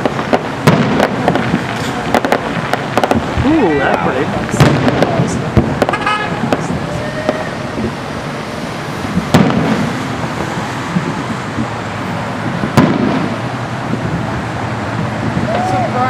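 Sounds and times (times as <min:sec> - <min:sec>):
distant firework bursts: 0:00.0 - 0:16.0
firework booms: 0:00.0 - 0:16.0.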